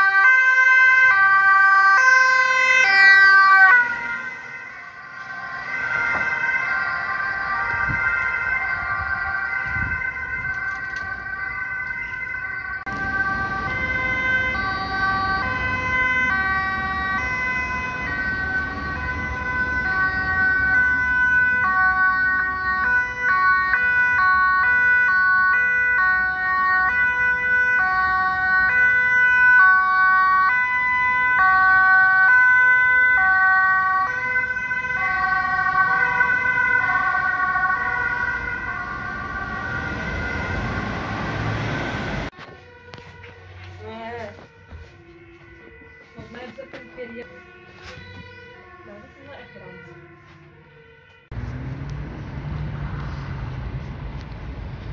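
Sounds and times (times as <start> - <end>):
road traffic rumble: 0.0 - 54.9
two-tone ambulance sirens: 0.0 - 54.9.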